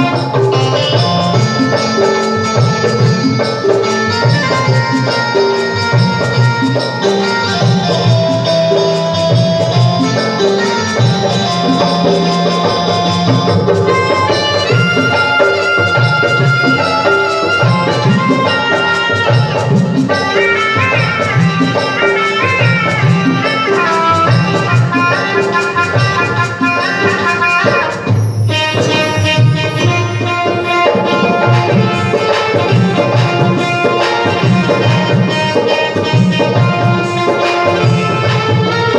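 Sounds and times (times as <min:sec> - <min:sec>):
hand drum rhythm: 0:00.0 - 0:38.9
instrumental folk melody: 0:00.0 - 0:38.9
steady percussion beat: 0:00.0 - 0:38.9.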